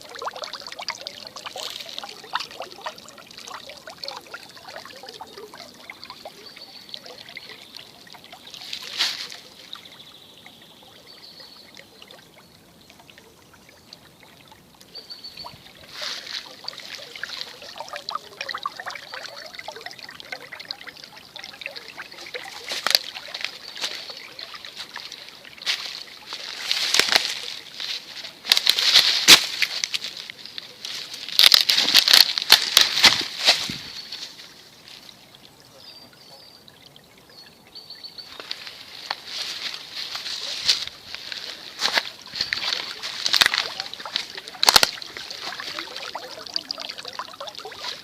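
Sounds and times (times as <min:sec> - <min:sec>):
brook trickling and splashing: 0:00.0 - 0:48.0.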